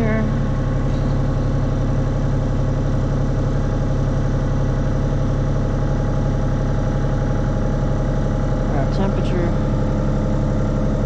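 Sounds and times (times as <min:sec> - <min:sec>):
excavator engine idling: 0:00.0 - 0:11.0.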